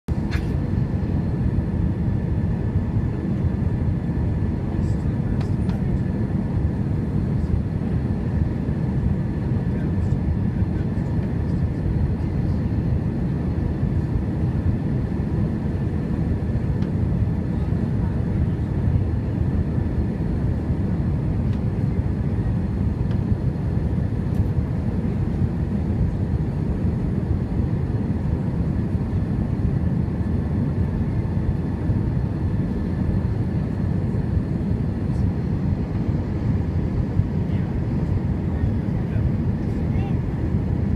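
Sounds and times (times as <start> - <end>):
airplane cabin engine roar: 0.1 - 40.9.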